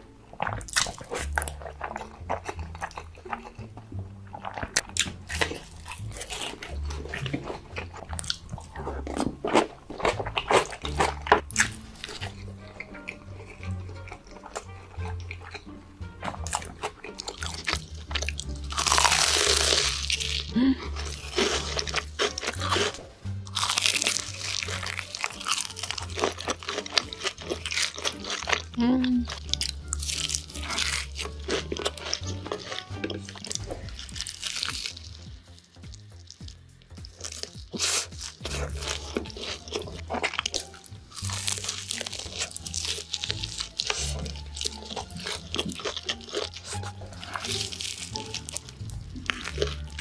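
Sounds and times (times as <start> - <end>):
background music with low bass: 0.0 - 50.0
chewing crunchy food: 0.0 - 50.0.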